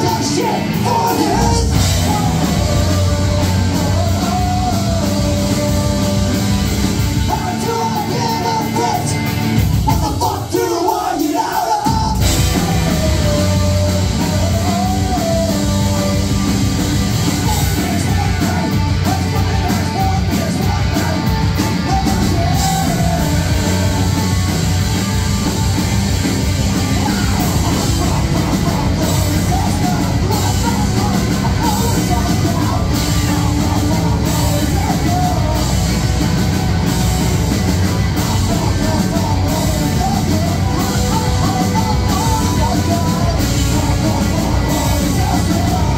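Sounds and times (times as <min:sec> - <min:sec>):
live rock band playing: 0:00.0 - 0:45.9
person singing and yelling: 0:00.0 - 0:45.9.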